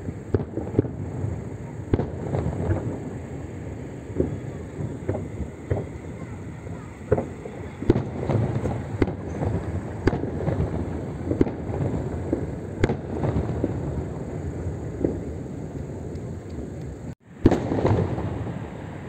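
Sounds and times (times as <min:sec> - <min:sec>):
firework shells bursting: 0:00.0 - 0:18.8
continuous low rumble: 0:00.0 - 0:19.0.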